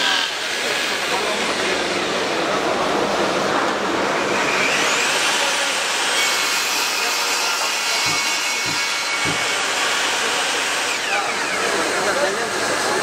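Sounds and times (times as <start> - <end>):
table saw cutting wood: 0.0 - 13.0.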